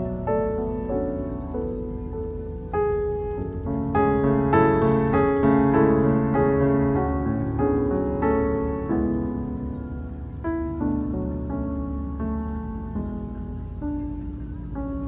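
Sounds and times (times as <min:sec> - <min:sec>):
soft slow piano music: 0:00.0 - 0:15.0.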